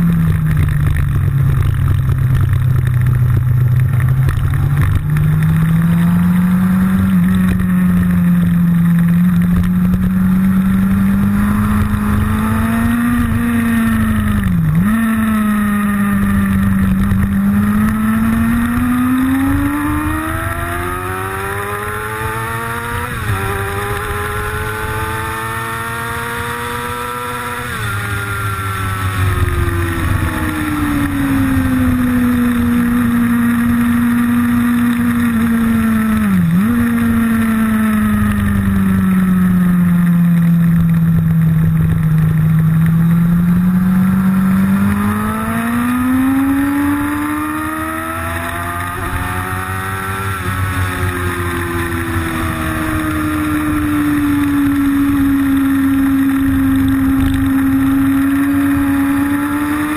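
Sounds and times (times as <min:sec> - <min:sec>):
motorcycle engine at speed: 0:00.0 - 0:59.9.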